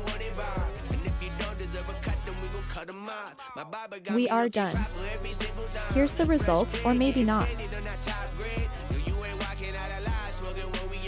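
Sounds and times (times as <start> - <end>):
steady bass: 0.0 - 2.8, 4.8 - 11.0
person singing: 0.0 - 11.0.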